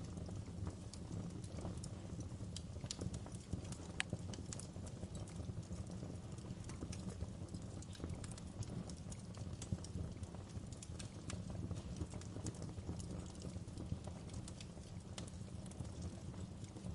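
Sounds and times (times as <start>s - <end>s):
wood fire crackling: 0.0s - 16.9s.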